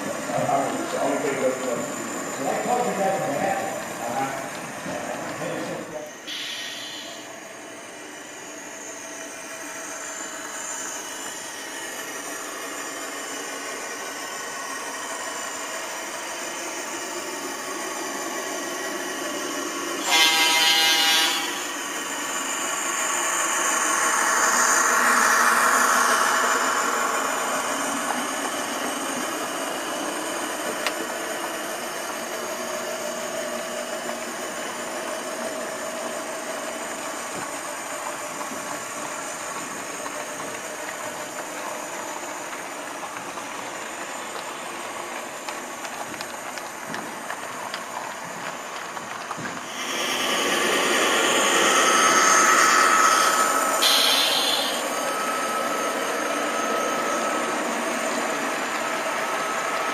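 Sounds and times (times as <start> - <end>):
model locomotive diesel engine sound: 0.0 - 59.9.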